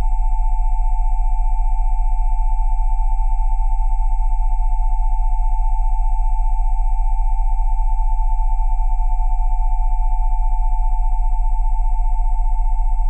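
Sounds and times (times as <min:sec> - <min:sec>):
steady pure sine tones: 0:00.0 - 0:13.0.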